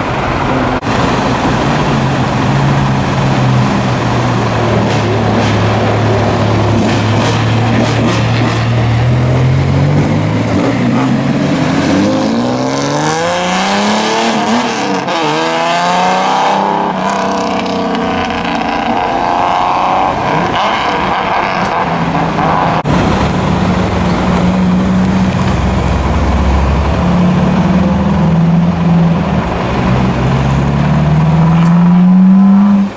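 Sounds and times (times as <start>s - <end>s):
car engines accelerating: 0.0s - 32.9s.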